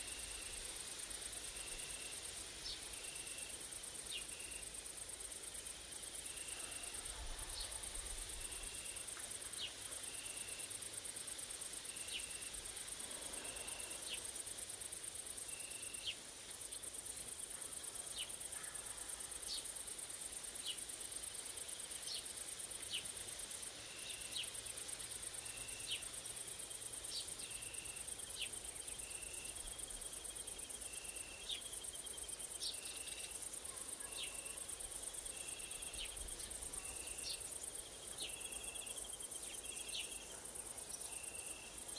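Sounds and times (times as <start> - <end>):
insects high-pitched buzz: 0.0 - 41.9.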